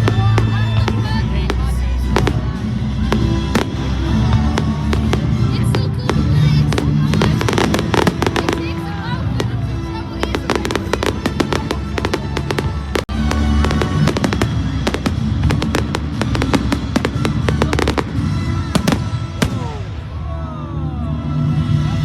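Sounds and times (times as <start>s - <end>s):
fireworks crackling: 0.0s - 20.2s
music playing: 0.0s - 22.0s.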